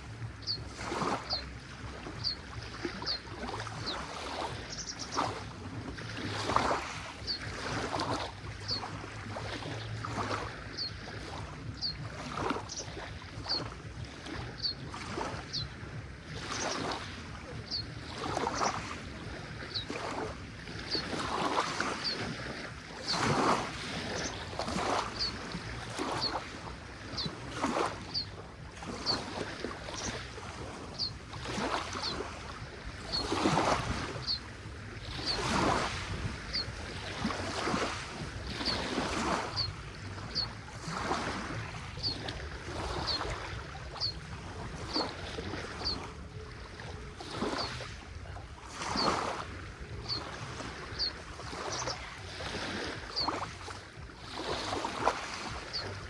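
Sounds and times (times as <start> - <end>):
lake water lapping: 0.0 - 56.0.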